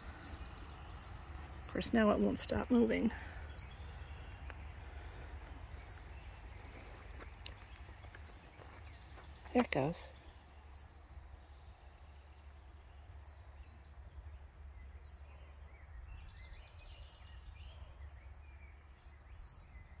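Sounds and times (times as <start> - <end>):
distant birdsong: 0.0 - 20.0.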